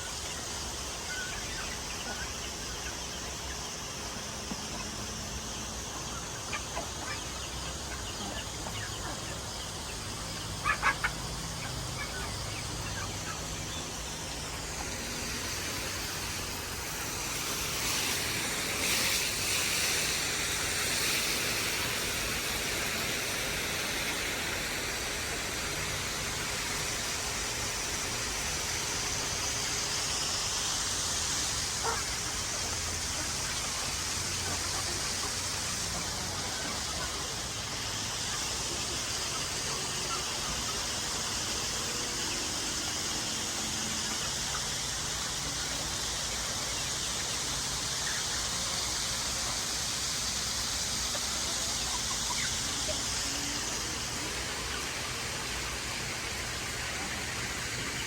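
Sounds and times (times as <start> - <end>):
water spraying from hose: 9.4 - 58.0.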